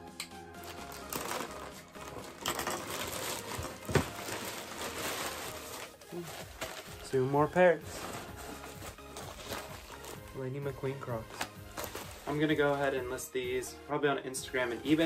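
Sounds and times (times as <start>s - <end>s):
plastic mailer tearing and crinkling: 0.6s - 12.9s.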